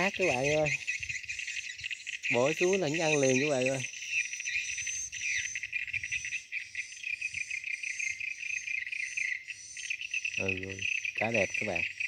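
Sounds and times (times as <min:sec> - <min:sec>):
crickets trilling: 0:00.0 - 0:12.0
short high insect chirp: 0:00.0 - 0:12.0.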